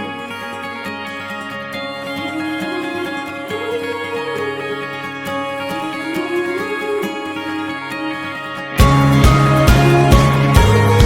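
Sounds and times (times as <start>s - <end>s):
picked acoustic guitar: 0.0s - 11.0s.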